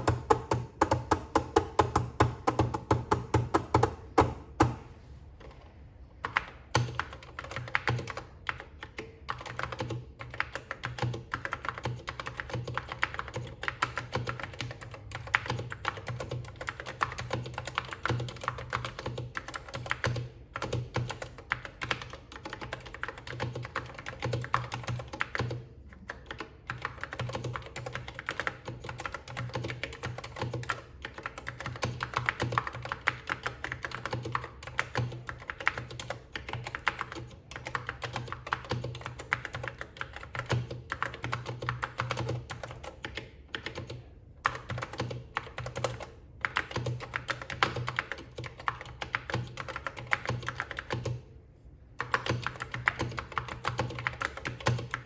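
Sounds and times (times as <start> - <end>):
fast keyboard typing: 0.0 - 4.8, 6.2 - 51.2, 52.0 - 55.0.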